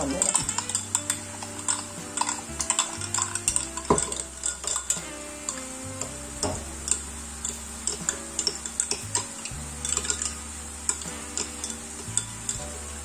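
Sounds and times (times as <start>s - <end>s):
teaspoon clinking against glass: 0.0s - 12.7s.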